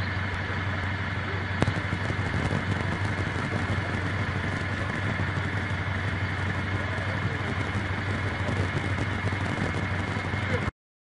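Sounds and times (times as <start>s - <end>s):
street noise: 0.0s - 10.7s
vehicle engines humming: 0.0s - 10.7s.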